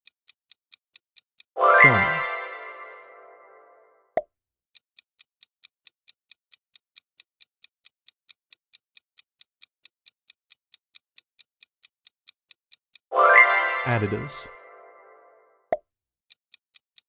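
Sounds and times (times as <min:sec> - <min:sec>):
clock-like ticking timer: 0:00.0 - 0:03.8, 0:04.7 - 0:17.0.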